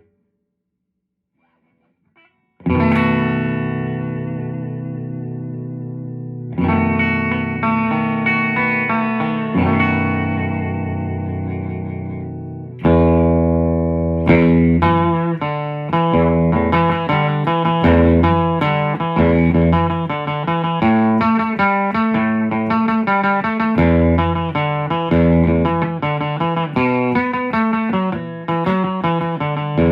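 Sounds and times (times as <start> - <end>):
loud electric guitar chords: 2.6 - 29.9.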